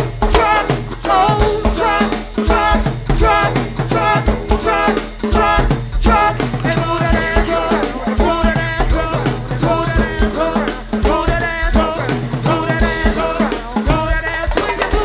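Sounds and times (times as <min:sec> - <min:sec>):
bass line: 0:00.0 - 0:15.0
drum-kit and percussion groove: 0:00.0 - 0:15.0
melodic parts: 0:00.0 - 0:15.0.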